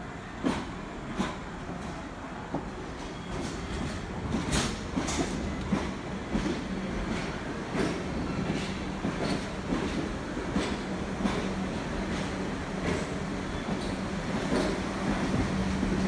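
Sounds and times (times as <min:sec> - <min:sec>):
train wheels clacking over rail joints: 0:02.6 - 0:16.0.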